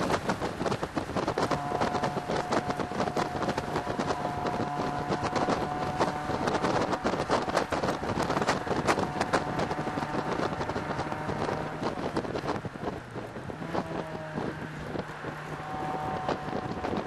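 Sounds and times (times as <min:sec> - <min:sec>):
wind buffeting on microphone: 0:00.0 - 0:17.0
car engine running: 0:00.1 - 0:17.0.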